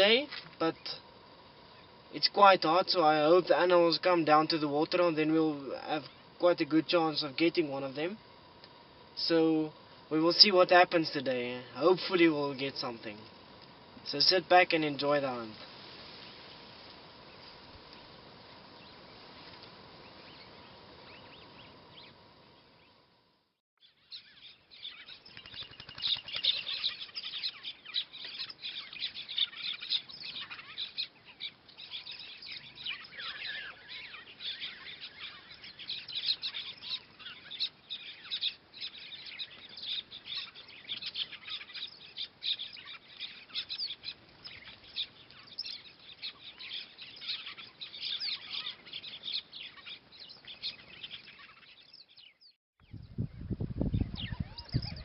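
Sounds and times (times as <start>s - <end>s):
small birds chirping: 0.0s - 23.1s, 23.8s - 55.0s.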